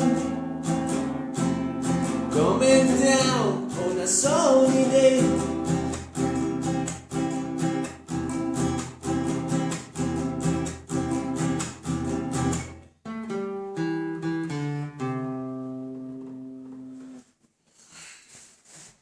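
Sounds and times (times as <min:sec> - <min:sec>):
acoustic guitar strumming: 0:00.0 - 0:17.2.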